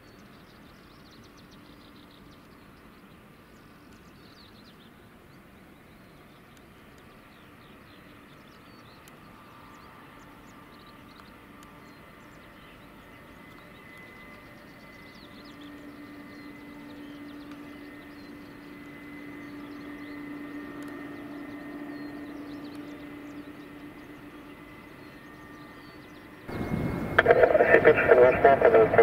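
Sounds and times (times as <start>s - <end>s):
jet engines at taxi power: 0.0s - 29.0s.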